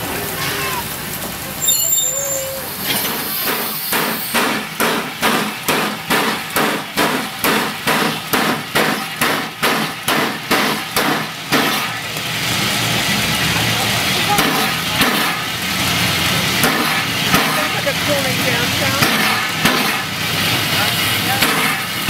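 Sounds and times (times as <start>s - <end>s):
steam hissing: 0.0s - 22.0s
steam locomotive chuffing: 0.0s - 22.0s.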